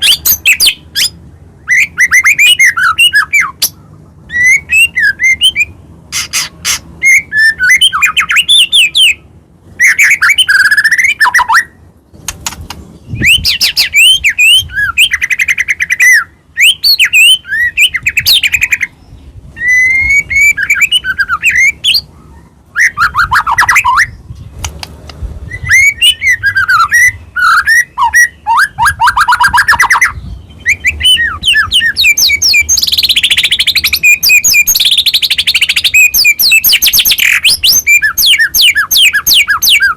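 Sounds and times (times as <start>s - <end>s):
songbird singing varied phrases: 0.0s - 39.9s.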